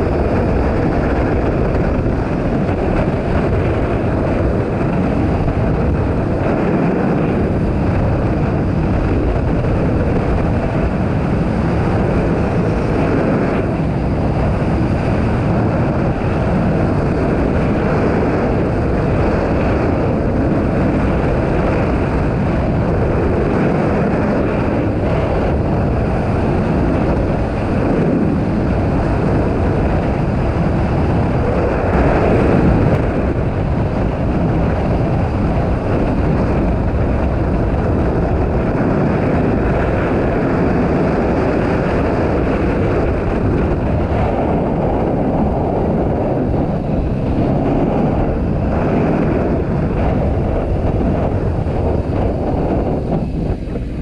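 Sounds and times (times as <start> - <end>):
motorcycle engine drone: 0.0 - 54.0
wind rushing: 0.0 - 54.0.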